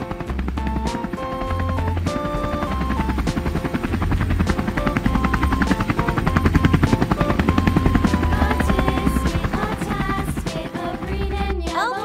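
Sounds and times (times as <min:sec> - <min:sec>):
helicopter rotor chopping: 0:00.0 - 0:12.0
light background music: 0:00.0 - 0:12.0.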